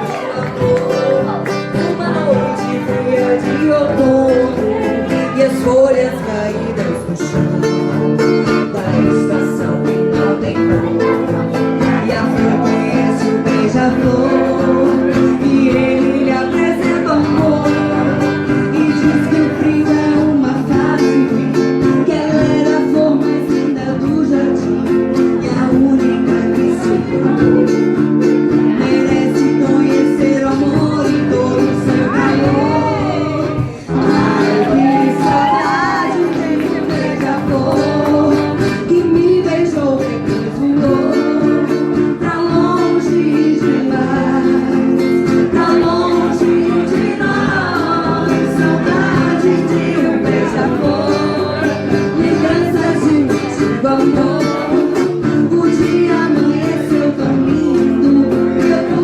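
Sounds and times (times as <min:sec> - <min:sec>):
guitar-led song: 0:00.0 - 0:59.0.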